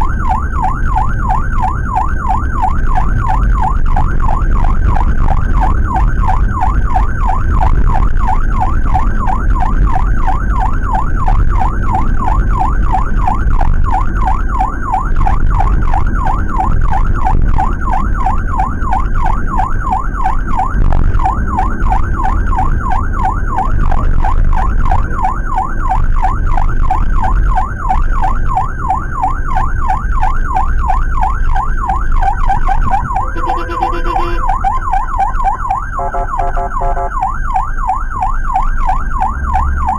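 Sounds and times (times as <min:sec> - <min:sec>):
electronic siren yelping: 0:00.0 - 0:39.9
engine and road rumble: 0:00.0 - 0:39.9.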